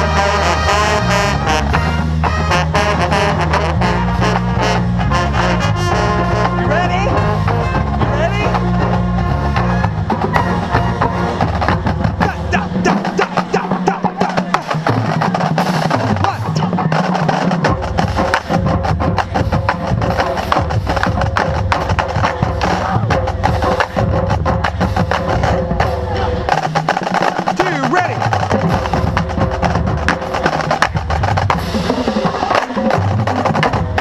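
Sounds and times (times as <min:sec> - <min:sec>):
brass low chords: 0:00.0 - 0:34.0
drumline percussion: 0:00.0 - 0:34.0.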